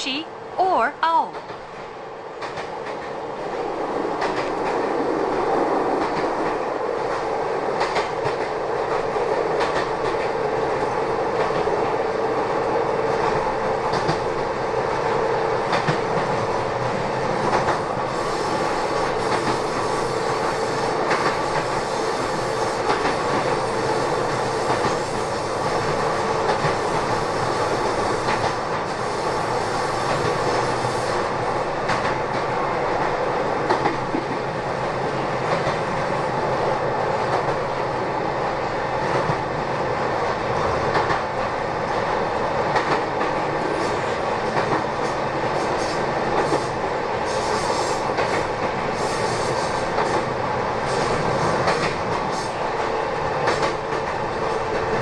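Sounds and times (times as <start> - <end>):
train running gear rumble: 1.3 - 55.0.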